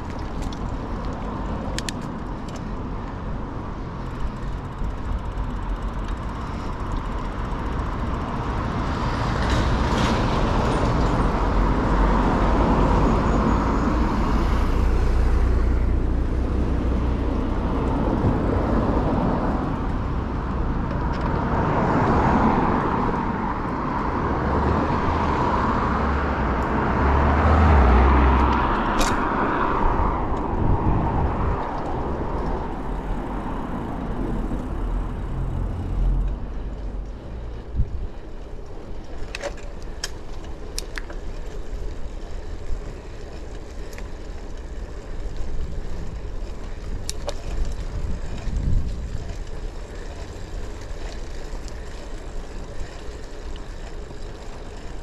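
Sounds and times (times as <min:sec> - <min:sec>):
low traffic rumble: 0:00.0 - 0:55.0
vehicles passing: 0:00.0 - 0:55.0.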